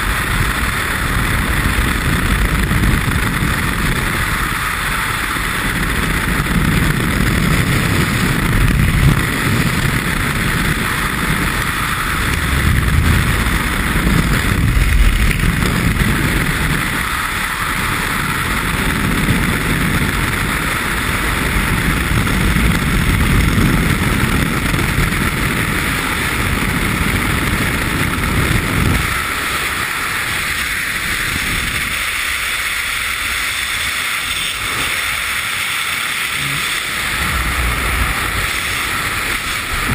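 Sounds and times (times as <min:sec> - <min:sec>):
wind rushing with buffeting: 0:00.0 - 0:39.9.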